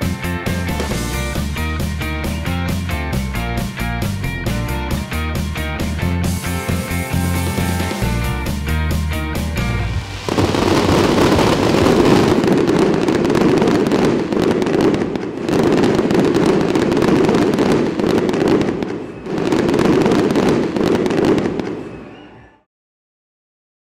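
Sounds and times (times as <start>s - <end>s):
fireworks bursting and crackling: 0.0s - 2.8s, 4.5s - 22.1s.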